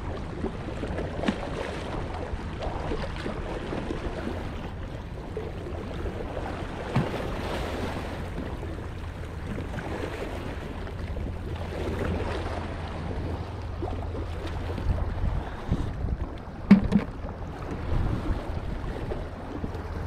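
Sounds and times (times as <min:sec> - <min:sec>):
sea waves sloshing over rock: 0:00.0 - 0:20.0
wind rumbling on microphone: 0:00.0 - 0:20.0.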